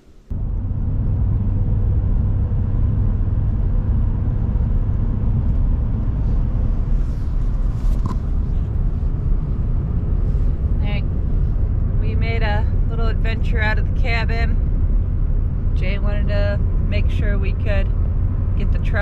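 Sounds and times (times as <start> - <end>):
truck engine and tyres rumbling: 0.0 - 19.0.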